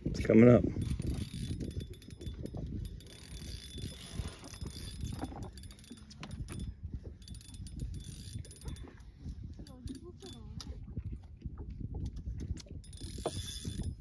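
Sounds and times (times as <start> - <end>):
fishing reel cranking: 0.8 - 10.8, 12.7 - 14.0.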